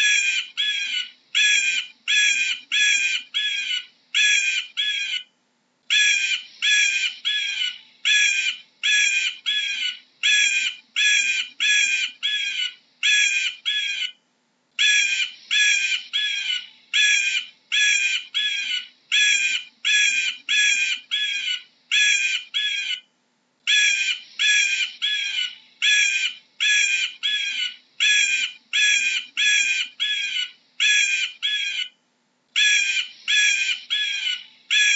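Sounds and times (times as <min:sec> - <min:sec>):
eagle calling: 0:00.0 - 0:05.3, 0:05.9 - 0:14.2, 0:14.8 - 0:23.1, 0:23.7 - 0:32.0, 0:32.6 - 0:34.9.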